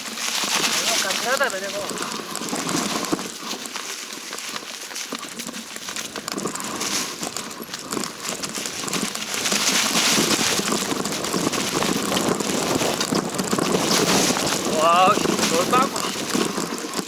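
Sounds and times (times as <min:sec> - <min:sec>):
footsteps crunching through dry leaves: 0:00.0 - 0:17.0.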